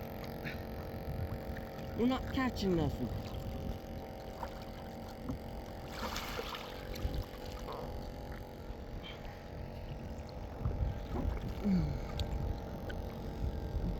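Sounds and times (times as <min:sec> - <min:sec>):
boat engine low rumble: 0:00.0 - 0:13.9
faint steady hum: 0:00.0 - 0:13.9.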